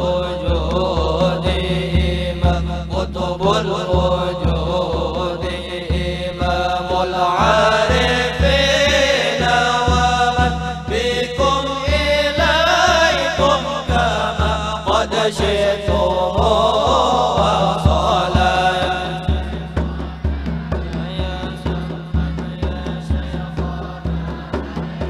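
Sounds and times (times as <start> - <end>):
large hand drum beats: 0.0 - 25.0
men chanting in unison: 0.0 - 25.0.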